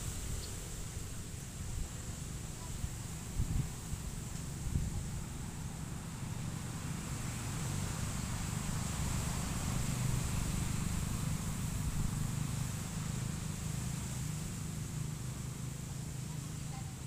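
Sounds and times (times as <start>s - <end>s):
faint high-pitched hiss: 0.0s - 17.0s.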